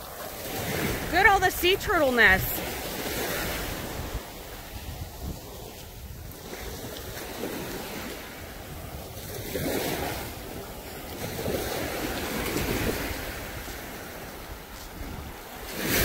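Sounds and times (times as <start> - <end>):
small surf on sandy beach: 0.0 - 16.0
wind buffeting microphone: 0.0 - 16.0.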